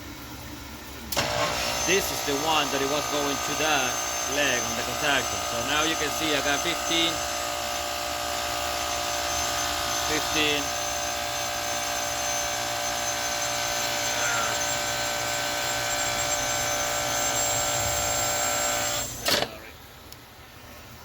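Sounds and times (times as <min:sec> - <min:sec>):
compressor humming: 0:00.0 - 0:21.0.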